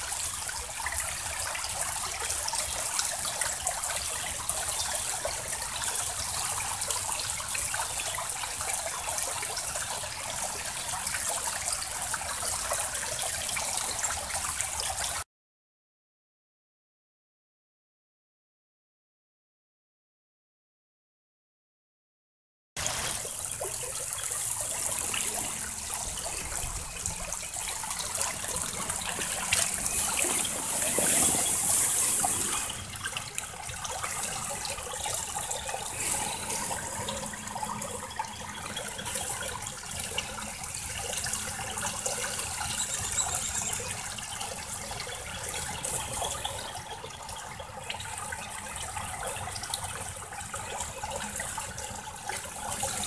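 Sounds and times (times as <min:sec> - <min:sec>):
water trickling and splashing: 0:00.0 - 0:15.2, 0:22.8 - 0:53.0.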